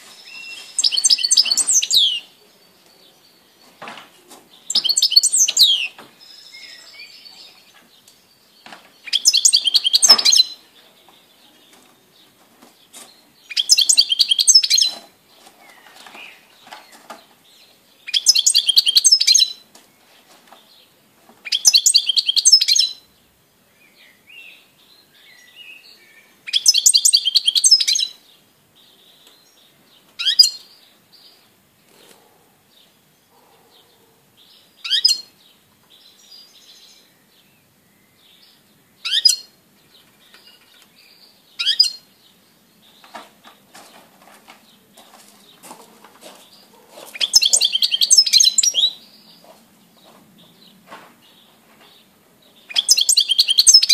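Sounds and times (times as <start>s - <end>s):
finch twittering song: 0.0s - 23.1s, 23.8s - 32.3s, 33.3s - 44.0s, 46.4s - 53.9s.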